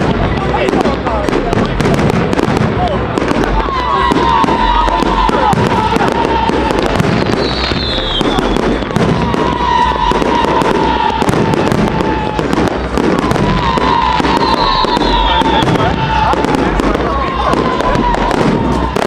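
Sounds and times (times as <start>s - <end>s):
fireworks crackling and popping: 0.0s - 19.0s
falling firework whistle: 3.4s - 19.0s.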